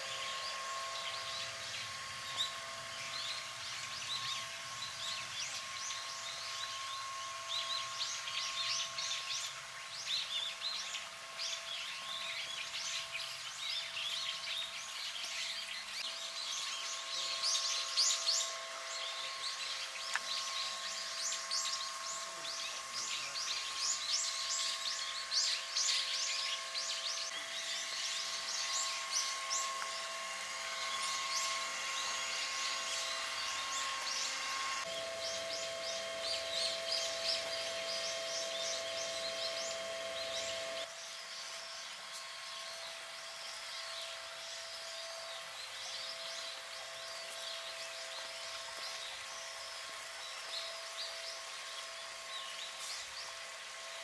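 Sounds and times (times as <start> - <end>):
faint steady hum: 0.0 - 54.0
small birds chirping: 0.0 - 54.0.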